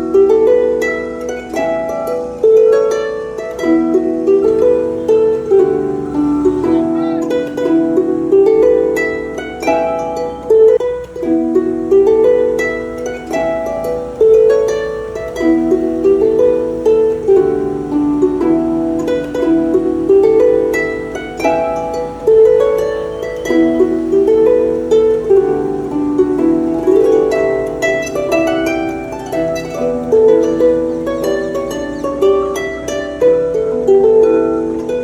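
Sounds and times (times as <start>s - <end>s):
plucked harp-like strings: 0.0s - 35.0s.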